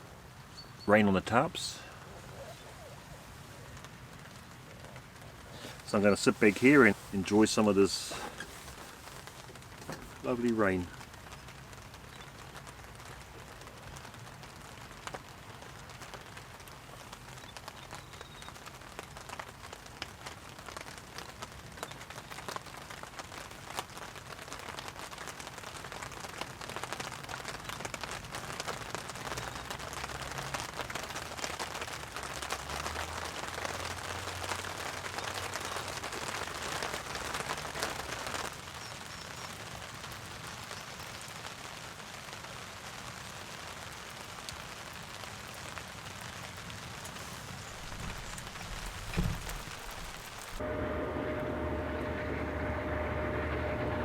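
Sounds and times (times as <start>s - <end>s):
rain pattering on a tarp: 0.0s - 50.7s.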